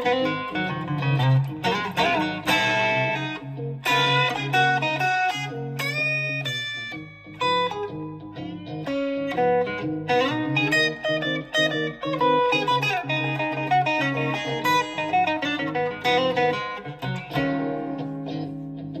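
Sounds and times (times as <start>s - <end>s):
electric guitar blues lick: 0.0s - 19.0s.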